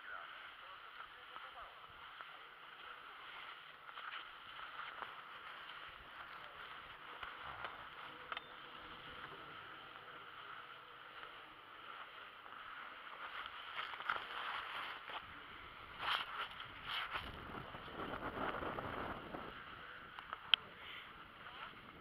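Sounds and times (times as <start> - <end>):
skis sliding over snow: 0.0 - 22.0.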